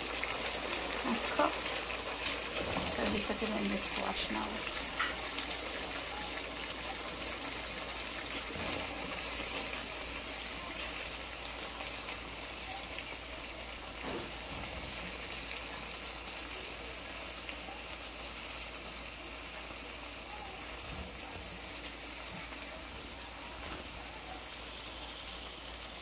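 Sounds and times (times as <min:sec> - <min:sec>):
squash sizzling in hot oil: 0:00.0 - 0:26.0.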